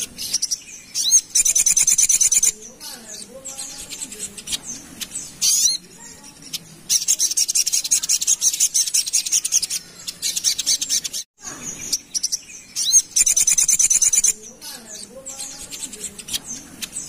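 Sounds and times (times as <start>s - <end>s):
sunbird rattling song: 0.0s - 17.0s.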